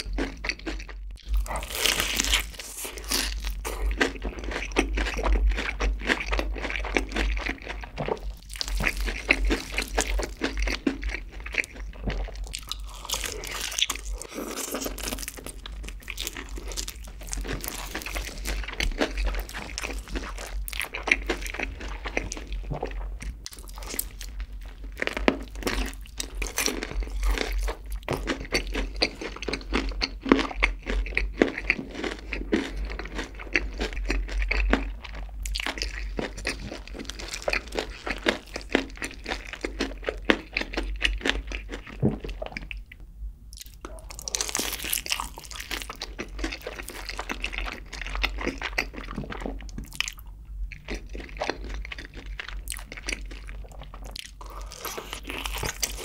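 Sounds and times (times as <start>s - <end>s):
crunching fried crust: 0.0s - 42.8s, 43.6s - 56.0s
wet chewing: 0.0s - 42.9s, 43.6s - 56.0s.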